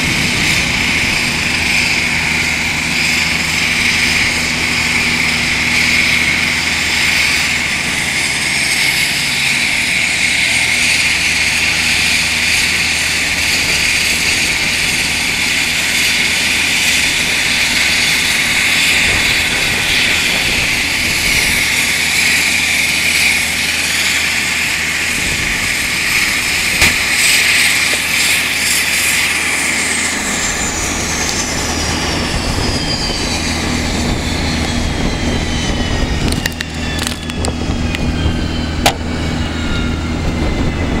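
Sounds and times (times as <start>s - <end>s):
turboprop engines winding down: 0.0s - 41.0s.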